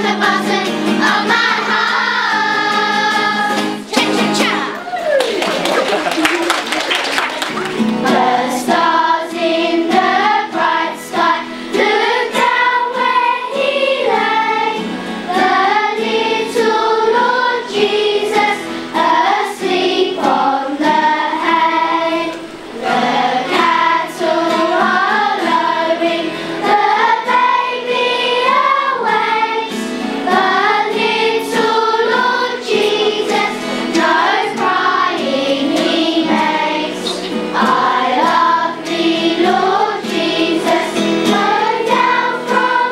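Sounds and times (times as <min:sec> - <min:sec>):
children's choir singing a carol: 0:00.0 - 0:04.7, 0:07.3 - 0:42.9.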